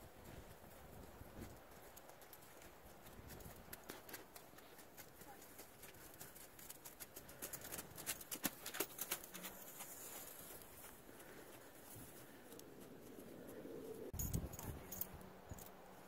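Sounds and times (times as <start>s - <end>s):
hoofbeats on frozen snowy ground: 0.0s - 14.1s.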